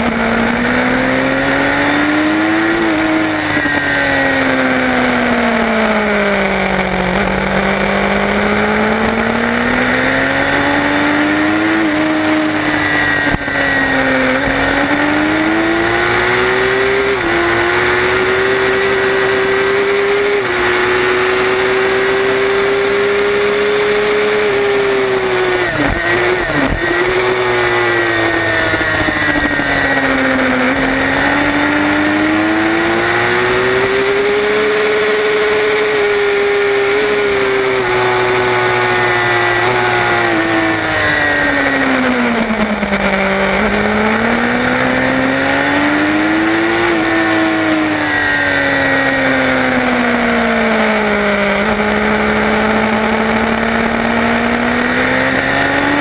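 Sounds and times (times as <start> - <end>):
racing motorcycle engine revving: 0.0 - 56.0.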